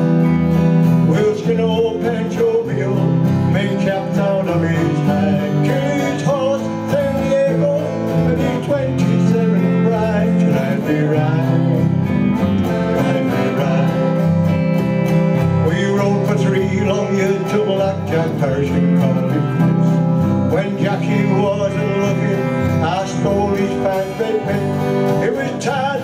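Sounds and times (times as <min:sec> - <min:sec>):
electric bass: 0:00.0 - 0:26.0
electric guitar: 0:00.0 - 0:26.0
strummed acoustic guitar: 0:00.0 - 0:26.0.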